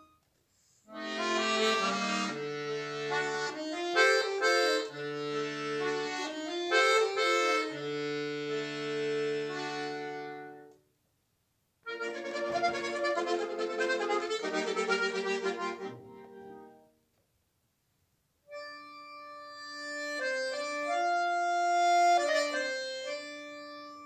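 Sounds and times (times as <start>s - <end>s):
button accordion playing: 0.9s - 10.7s, 11.9s - 16.8s, 18.5s - 24.0s.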